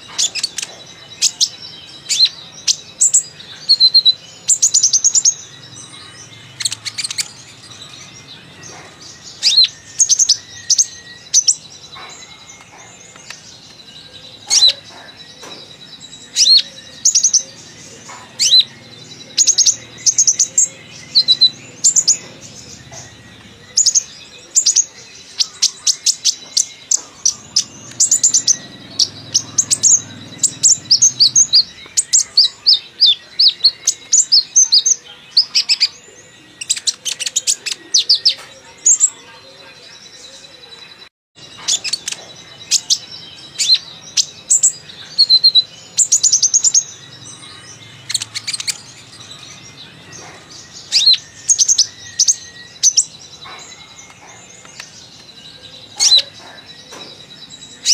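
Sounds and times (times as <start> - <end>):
bird chirps and trills: 0.0 - 57.9.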